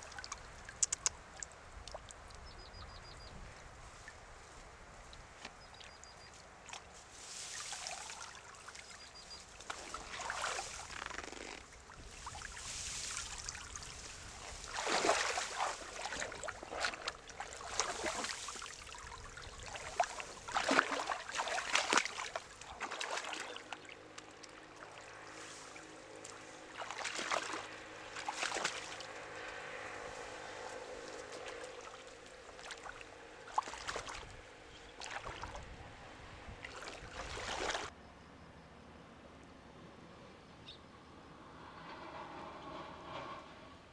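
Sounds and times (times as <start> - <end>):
stream water splashing: 0.0 - 37.9.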